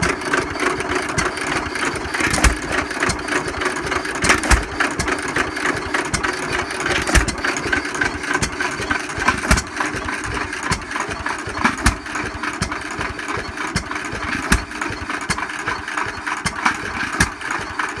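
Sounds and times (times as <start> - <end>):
mechanical clatter: 0.0 - 18.0
stationary engine firing beats: 0.0 - 18.0.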